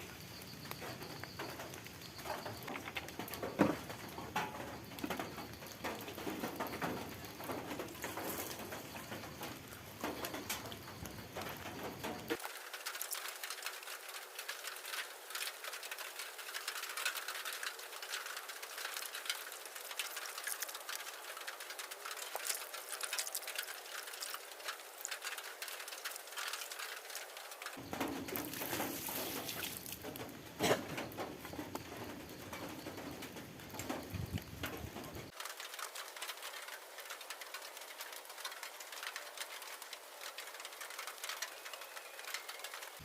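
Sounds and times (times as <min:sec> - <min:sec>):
heavy rain pattering: 0:00.0 - 0:43.0.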